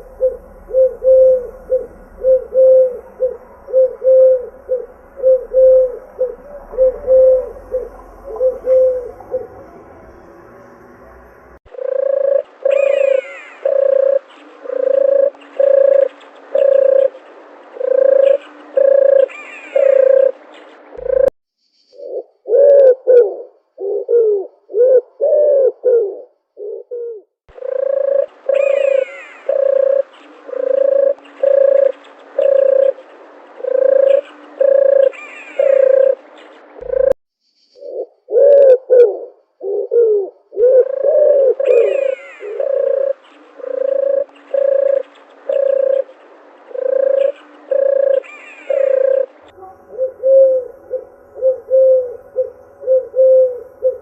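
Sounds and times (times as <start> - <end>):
dove cooing: 0.0 - 9.9, 11.7 - 21.3, 22.0 - 37.2, 37.8 - 54.0
faint bird chirps: 0.0 - 22.7, 26.6 - 54.0.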